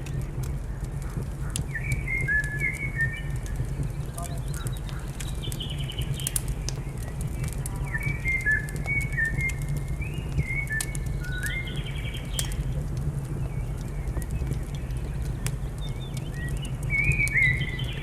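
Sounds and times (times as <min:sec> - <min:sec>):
wood fire crackling: 0:00.0 - 0:18.0
songbird chirping: 0:01.0 - 0:12.6, 0:13.3 - 0:18.0.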